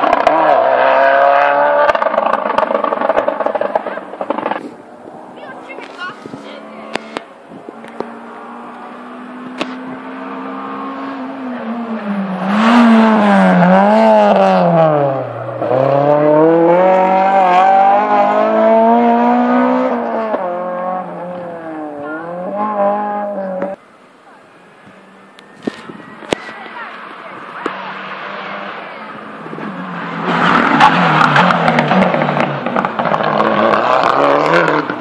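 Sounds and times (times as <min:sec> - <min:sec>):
rally car engine revving: 0:00.0 - 0:23.8, 0:26.7 - 0:35.0.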